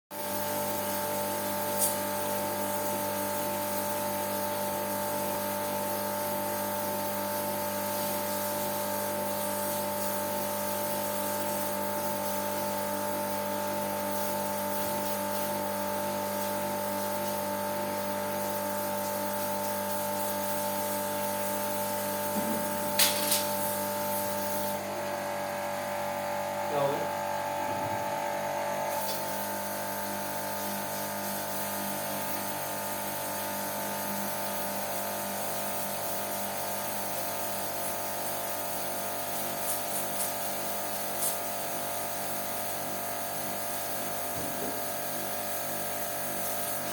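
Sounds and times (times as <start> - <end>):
jet washer pump whining: 0.1 - 46.9
water spraying: 0.2 - 24.8, 28.8 - 41.9, 43.5 - 46.9.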